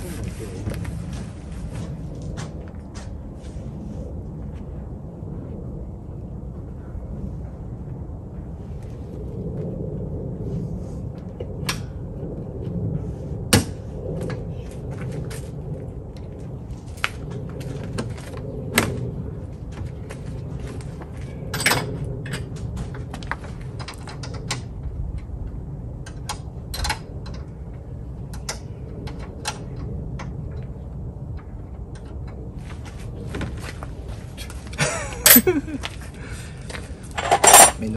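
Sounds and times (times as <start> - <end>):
low background rumble: 0.0 - 37.9.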